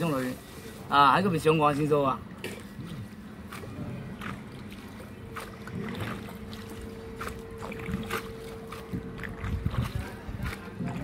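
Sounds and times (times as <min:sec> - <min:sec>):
faint steady hum: 0:00.0 - 0:11.0
water splashing against a hull: 0:00.0 - 0:11.0.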